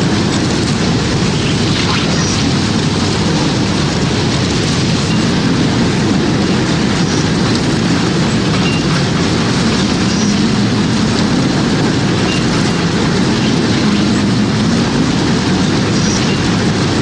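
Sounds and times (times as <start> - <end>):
tornado wind rumbling: 0.0 - 17.0.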